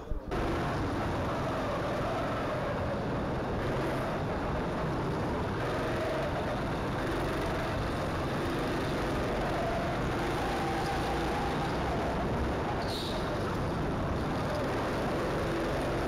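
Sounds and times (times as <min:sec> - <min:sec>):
go-kart engine running: 0:00.3 - 0:16.0.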